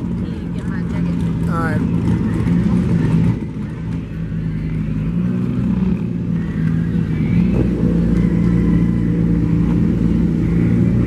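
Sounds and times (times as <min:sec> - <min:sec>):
drag racing engine running: 0:00.0 - 0:11.0.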